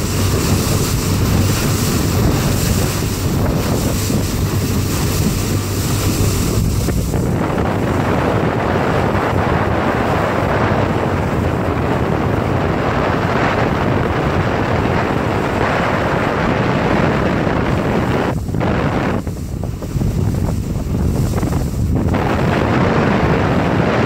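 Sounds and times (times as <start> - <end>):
boat engine running: 0.0 - 24.0
boat wake rushing: 0.0 - 24.0
wind buffeting microphone: 0.0 - 24.0.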